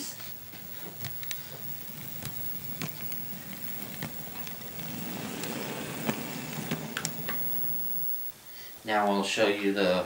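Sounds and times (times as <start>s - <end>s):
model train motor hum: 0.0s - 8.3s
wheels clicking on rails: 0.0s - 8.3s.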